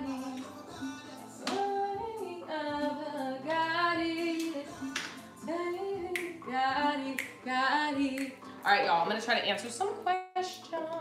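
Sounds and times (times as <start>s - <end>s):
music: 0.0s - 11.0s
woman singing: 0.0s - 11.0s.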